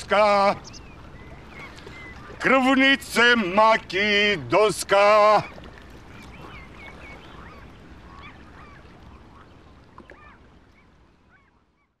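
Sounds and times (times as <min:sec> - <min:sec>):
birds giving wavering cries: 0:00.0 - 0:03.3, 0:05.0 - 0:12.0.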